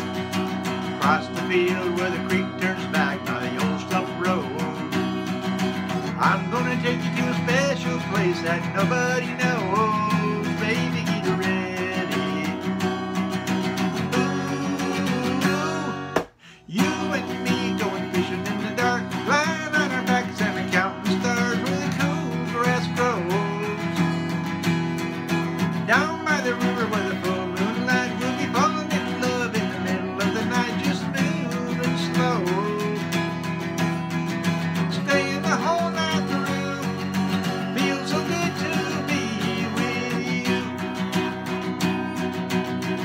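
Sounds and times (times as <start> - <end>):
acoustic guitar: 0.0 - 43.0.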